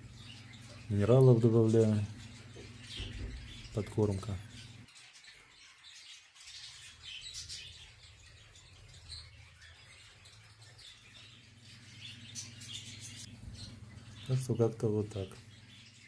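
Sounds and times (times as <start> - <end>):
small songbirds chirping: 0.0 - 16.0.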